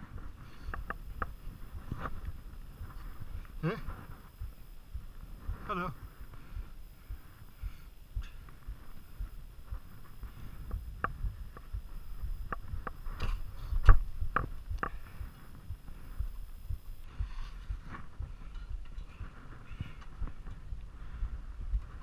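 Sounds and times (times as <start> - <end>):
low rumble of movement: 0.0 - 22.0.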